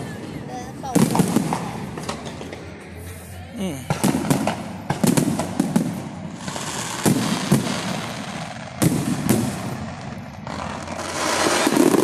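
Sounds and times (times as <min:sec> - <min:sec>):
firework bangs: 0:00.0 - 0:02.9, 0:03.8 - 0:12.0
continuous noise: 0:00.0 - 0:12.0.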